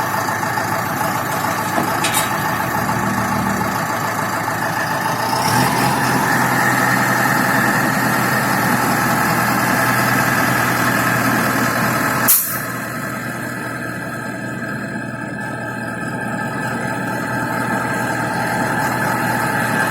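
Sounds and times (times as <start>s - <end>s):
truck engine running: 0.0s - 19.9s.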